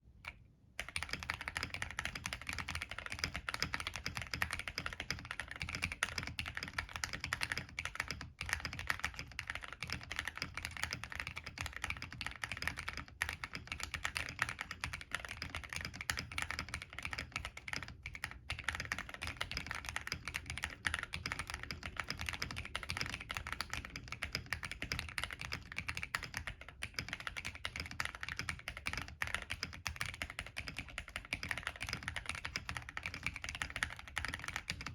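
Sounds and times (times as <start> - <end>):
fast typing on mechanical keyboard: 0.8 - 34.9.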